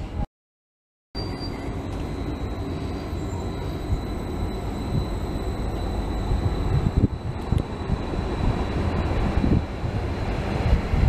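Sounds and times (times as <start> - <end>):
thin high whine: 1.2 - 10.2
train wheels rumbling on rails: 1.2 - 11.0.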